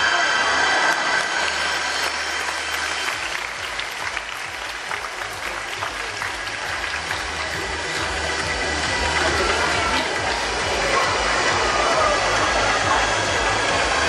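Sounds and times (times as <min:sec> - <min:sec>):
audience applauding: 0:00.1 - 0:14.0
show music: 0:01.4 - 0:14.0.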